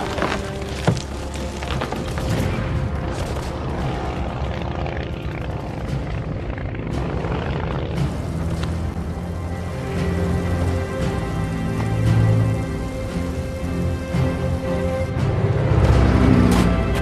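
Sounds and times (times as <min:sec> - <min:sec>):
orchestral film music: 0:00.0 - 0:17.0
propeller plane engine droning: 0:00.2 - 0:17.0.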